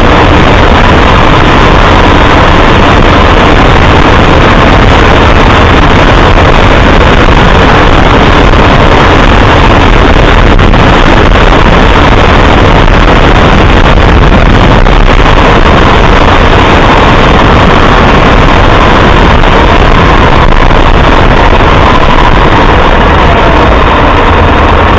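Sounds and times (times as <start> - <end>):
vehicle engine noise: 0.0 - 24.9
wind noise: 0.0 - 24.9.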